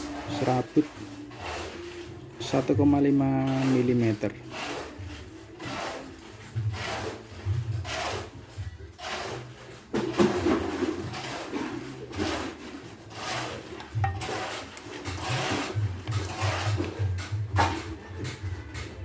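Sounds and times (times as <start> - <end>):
cable rubbing and scraping: 0.0 - 19.0.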